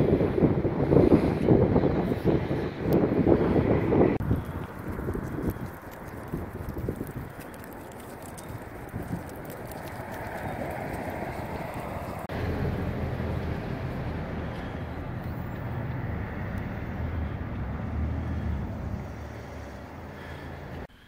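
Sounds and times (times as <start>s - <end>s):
low vehicle rumble: 0.0s - 20.9s.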